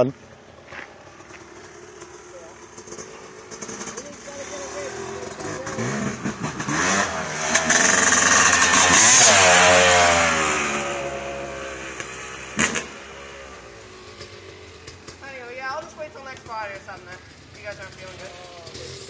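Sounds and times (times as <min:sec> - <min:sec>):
motocross bike riding past: 0:00.0 - 0:19.0.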